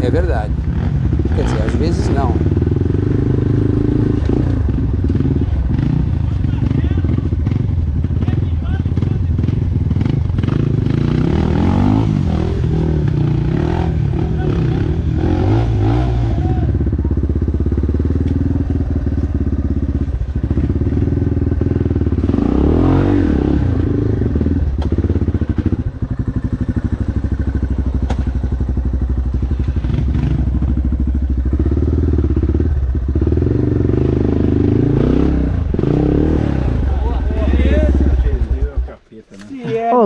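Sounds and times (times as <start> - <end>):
dirt bike engine revving: 0.0 - 17.0, 17.6 - 40.0.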